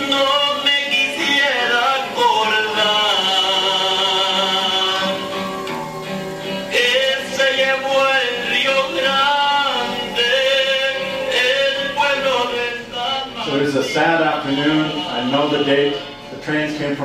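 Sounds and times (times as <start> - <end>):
guitar accompaniment: 0.0 - 17.0
man singing slow melody: 0.0 - 17.0.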